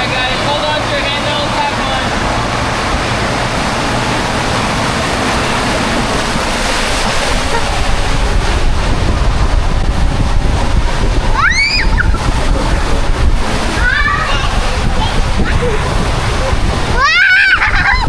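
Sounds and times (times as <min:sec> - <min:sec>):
rushing water: 0:00.0 - 0:18.0
wind buffeting microphone: 0:00.0 - 0:18.0.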